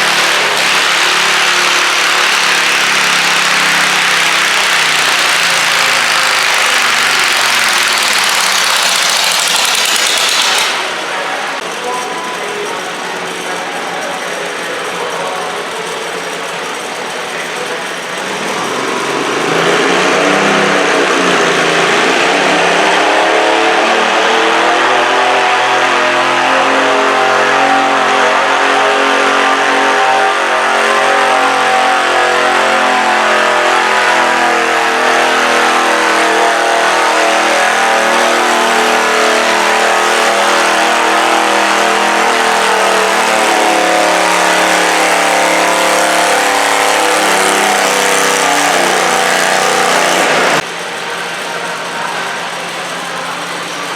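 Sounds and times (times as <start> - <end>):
garden tractor engine under load: 0.0 - 23.0, 32.5 - 53.9.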